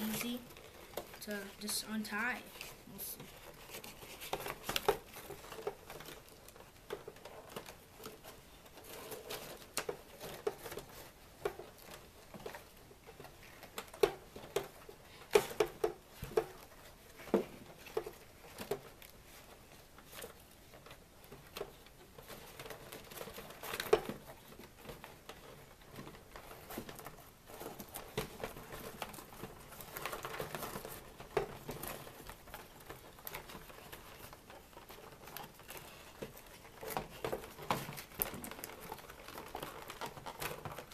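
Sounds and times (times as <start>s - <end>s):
cardboard rustling: 0.0s - 40.9s.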